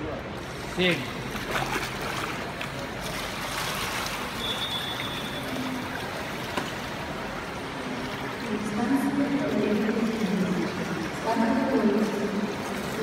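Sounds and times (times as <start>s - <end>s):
water trickling in pool: 0.0s - 13.0s
water lapping at pool edge: 0.2s - 13.0s.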